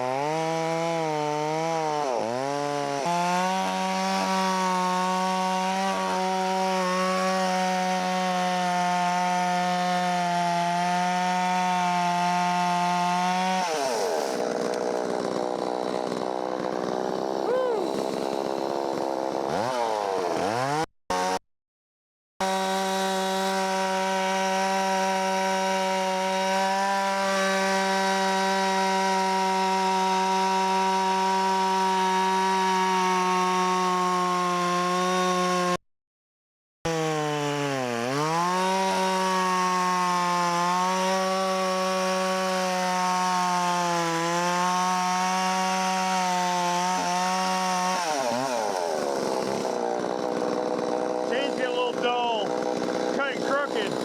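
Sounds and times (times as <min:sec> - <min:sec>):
chainsaw cutting wood: 0:00.0 - 0:21.4, 0:22.4 - 0:35.8, 0:36.9 - 0:54.0.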